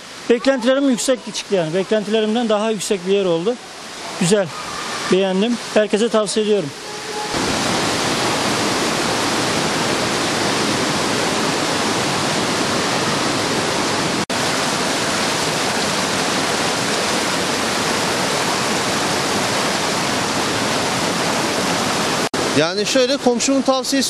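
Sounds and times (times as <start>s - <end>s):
water rushing over pools: 0.0s - 24.0s.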